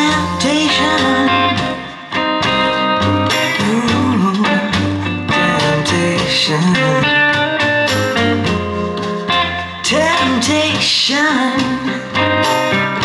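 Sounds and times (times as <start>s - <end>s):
blues song with guitar and singing: 0.0s - 13.0s.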